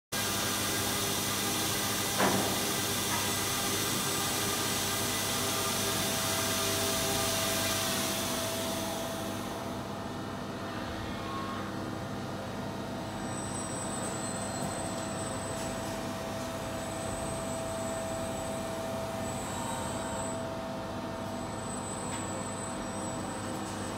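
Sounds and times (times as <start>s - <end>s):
industrial machinery hum: 0.2s - 23.9s.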